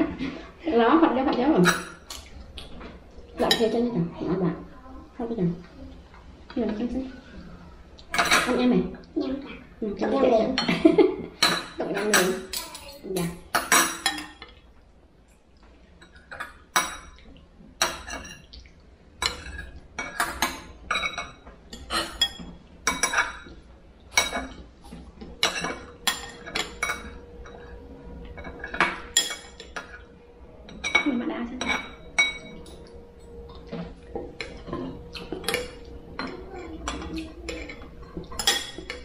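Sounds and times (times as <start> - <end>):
cutlery clinking against dishes: 1.3 - 3.9, 8.0 - 9.1, 10.0 - 14.7, 15.9 - 39.0.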